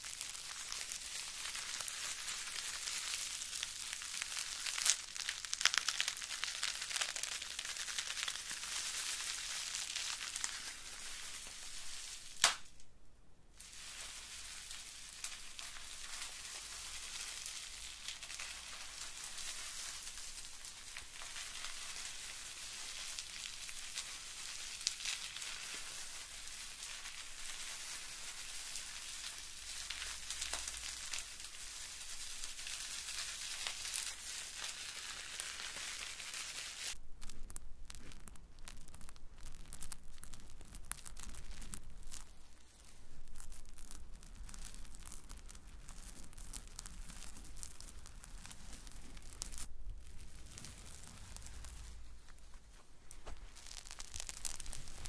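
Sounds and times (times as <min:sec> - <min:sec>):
bubble wrap crinkling: 0:00.0 - 0:12.9, 0:13.6 - 0:55.0.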